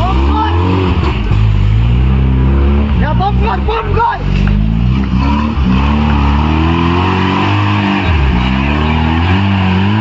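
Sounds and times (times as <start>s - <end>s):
jeep engine revving: 0.0s - 10.0s.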